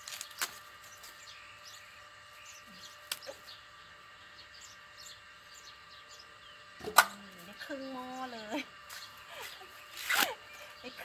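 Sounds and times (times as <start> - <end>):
faint bird chirps: 0.2 - 11.0.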